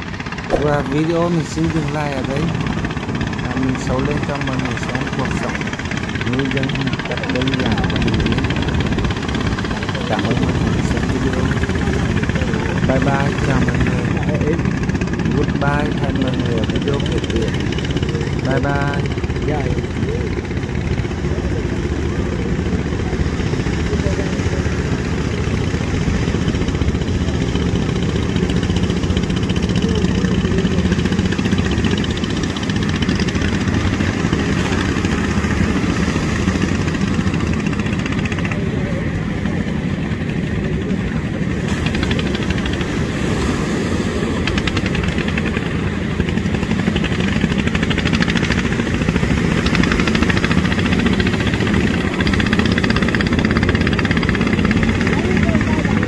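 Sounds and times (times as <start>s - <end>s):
boat engine drone: 0.0s - 56.0s
surf washing on beach: 0.0s - 56.0s.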